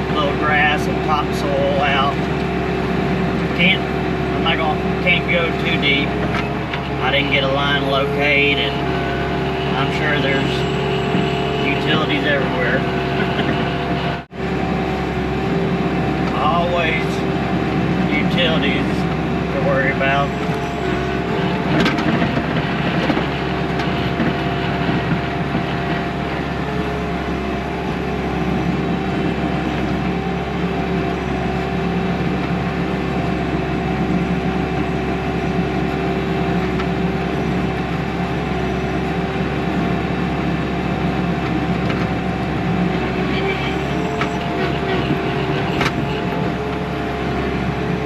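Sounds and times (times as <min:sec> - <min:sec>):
diesel engine under load: 0:00.0 - 0:48.0
steady mechanical whine: 0:00.0 - 0:48.0.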